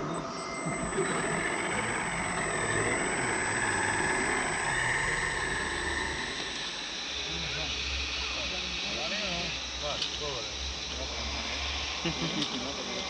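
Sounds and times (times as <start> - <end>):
model vehicle engine drone: 0.0 - 13.0
thin high whine: 0.0 - 13.0.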